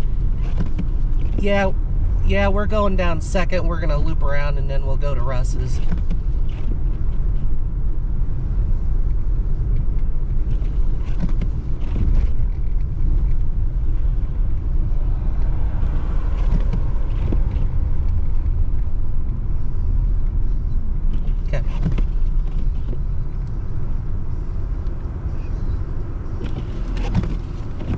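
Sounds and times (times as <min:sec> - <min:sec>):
car driving on snow: 0:00.0 - 0:27.9.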